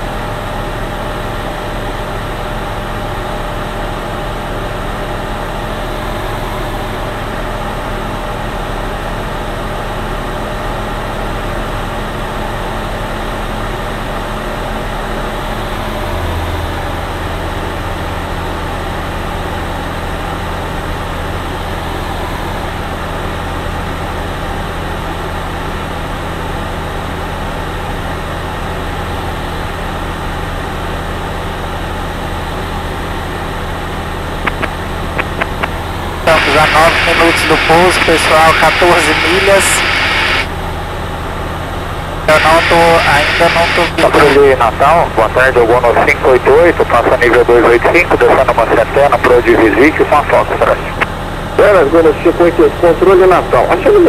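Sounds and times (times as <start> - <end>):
light aircraft engine drone: 0.0 - 54.0.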